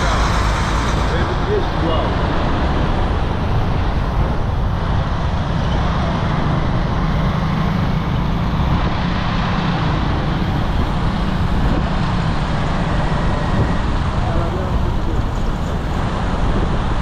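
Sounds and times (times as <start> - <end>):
motorbike running: 0.0 - 17.0.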